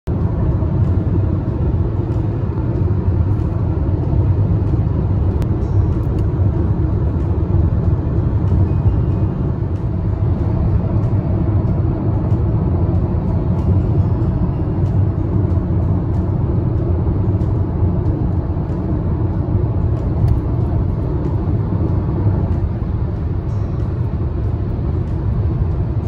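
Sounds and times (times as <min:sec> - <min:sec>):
car engine and tyre noise: 0:00.0 - 0:26.0.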